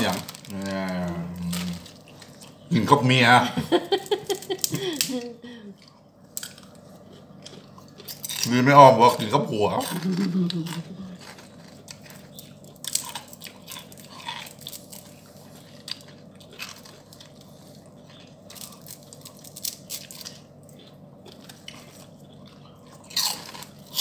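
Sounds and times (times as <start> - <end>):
people chewing crunchy food: 0.0 - 24.0.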